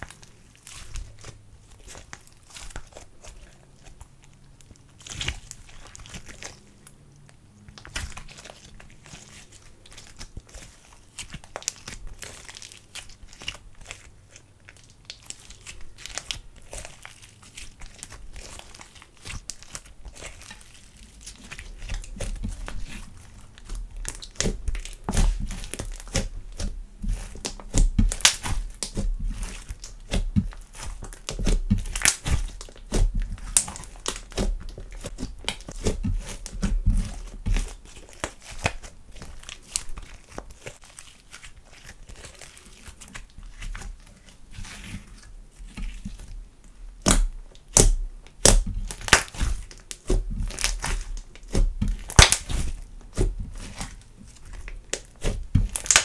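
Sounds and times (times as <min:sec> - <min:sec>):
slime crackling and popping: 0:00.0 - 0:56.0.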